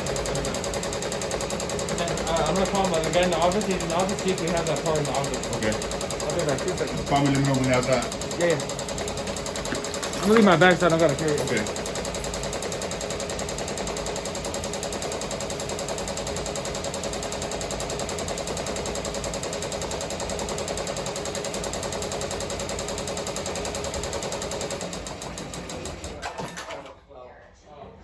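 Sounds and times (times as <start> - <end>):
embroidery machine stitching: 0.0 - 26.9.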